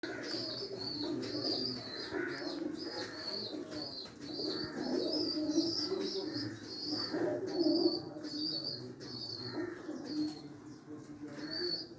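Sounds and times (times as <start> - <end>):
pigeons cooing: 0.1 - 10.5, 11.3 - 11.9.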